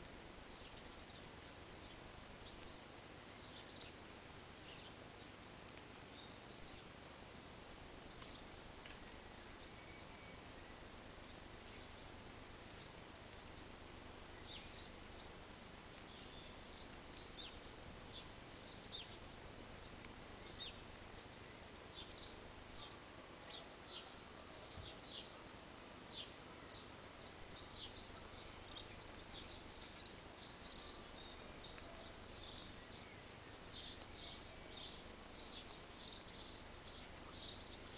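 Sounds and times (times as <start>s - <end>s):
faint steady hiss: 0.0s - 37.9s
small birds chirping: 0.0s - 37.9s.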